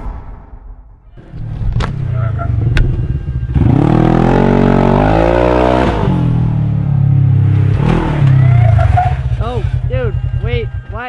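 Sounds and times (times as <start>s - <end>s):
engine revving: 1.2s - 11.0s.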